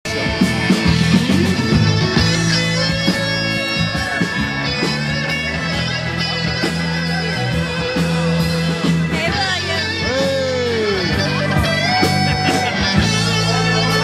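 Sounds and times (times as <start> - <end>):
bass notes: 0.1 - 14.0
electric guitar: 0.1 - 14.0
live rock band: 0.1 - 14.0.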